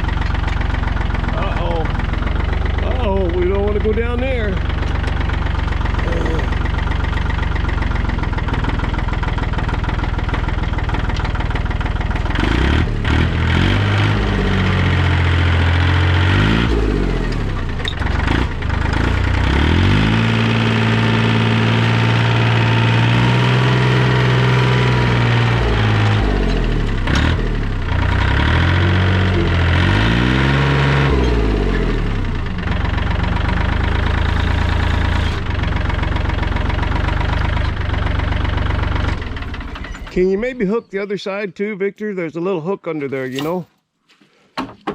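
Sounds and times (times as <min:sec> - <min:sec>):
tractor engine idling and revving: 0:00.0 - 0:41.4.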